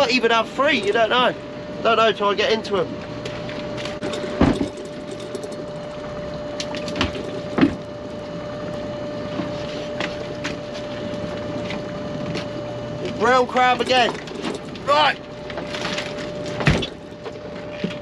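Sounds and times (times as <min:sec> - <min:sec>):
pot hauler whine: 0:00.0 - 0:18.0.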